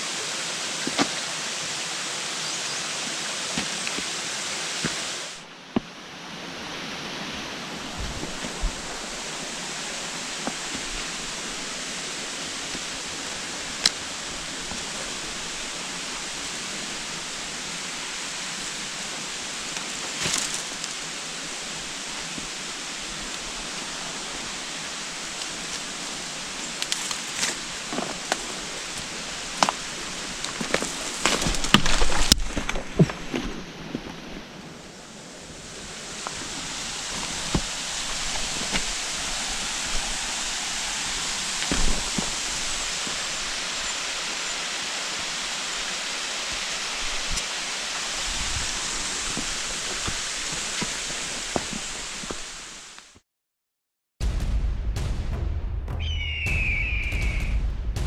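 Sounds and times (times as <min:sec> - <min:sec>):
waterfall rushing: 0:00.0 - 0:32.2, 0:35.0 - 0:52.9.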